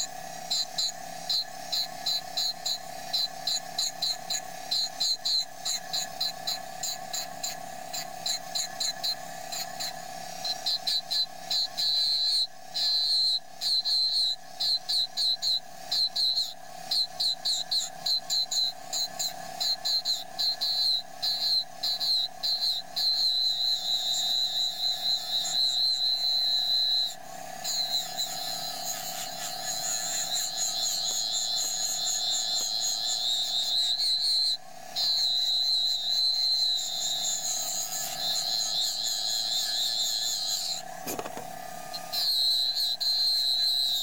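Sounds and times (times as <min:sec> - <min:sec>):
engraving tool buzzing whine: 0:00.0 - 0:44.0.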